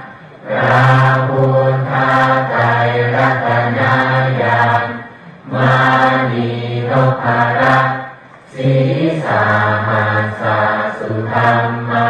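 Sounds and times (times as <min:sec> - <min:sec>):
voices chanting in unison: 0:00.0 - 0:12.0.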